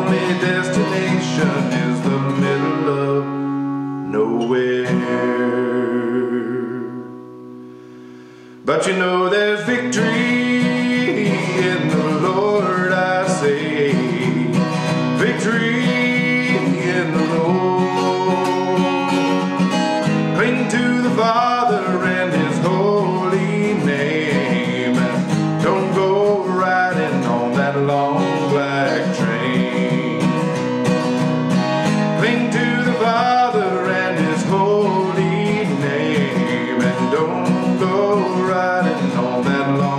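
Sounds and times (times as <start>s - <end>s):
man singing: 0.0s - 7.3s, 8.6s - 39.9s
acoustic guitar strumming: 0.0s - 39.9s.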